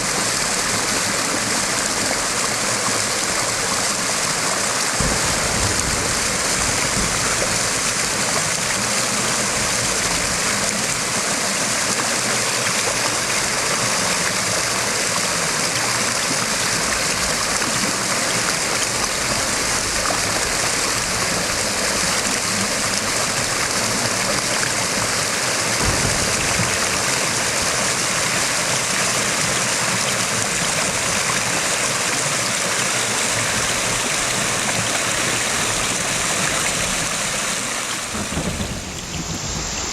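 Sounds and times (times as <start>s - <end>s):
creek rushing: 0.0s - 39.9s.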